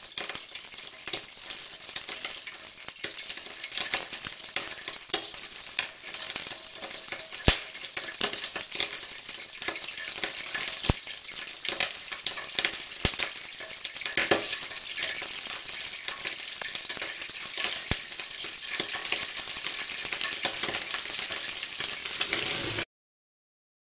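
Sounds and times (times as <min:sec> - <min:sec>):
oil sizzling in a wok: 0:00.0 - 0:22.9.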